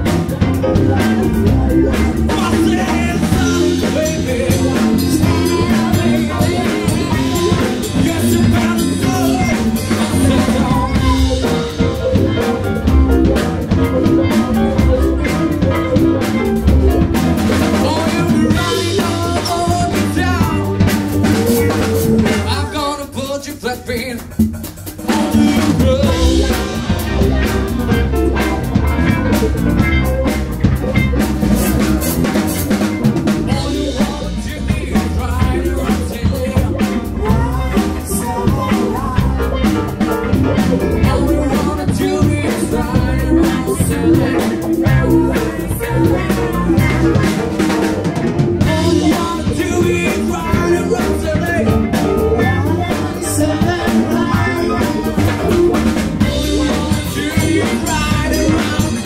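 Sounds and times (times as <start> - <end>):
bass guitar: 0.0 - 59.0
drum kit steady beat: 0.0 - 59.0
electric guitar: 0.0 - 59.0.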